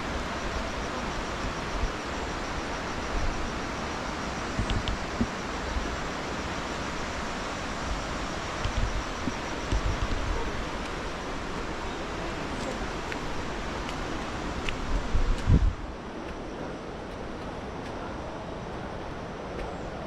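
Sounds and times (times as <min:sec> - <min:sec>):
water rushing from small waterfall: 0:00.0 - 0:19.6.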